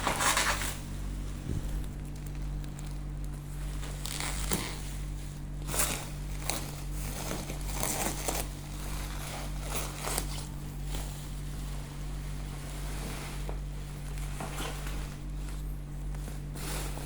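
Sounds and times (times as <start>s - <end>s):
low electrical hum: 0.0s - 17.0s
wrapping crinkling and rustling: 0.0s - 17.0s.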